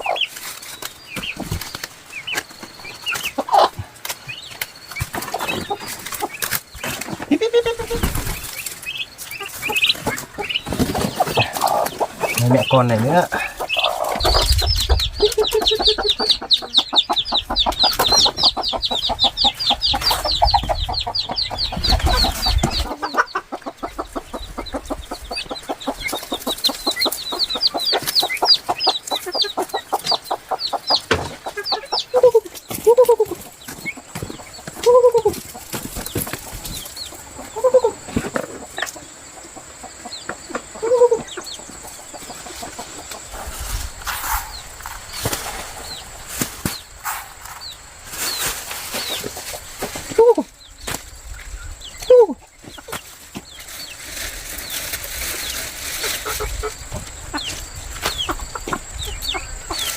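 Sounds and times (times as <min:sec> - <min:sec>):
hen clucking: 0:00.0 - 0:00.4, 0:01.1 - 0:50.8, 0:51.4 - 0:59.9
chicks peeping: 0:00.0 - 0:59.9.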